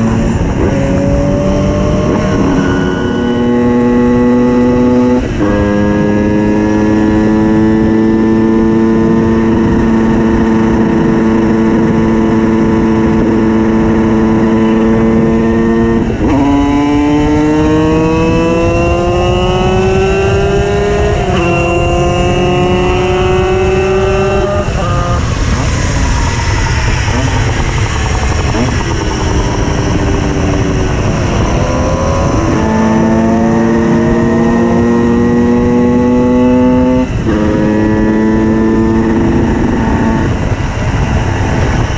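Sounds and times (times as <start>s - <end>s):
two-stroke moped engine accelerating: 0.0s - 41.9s.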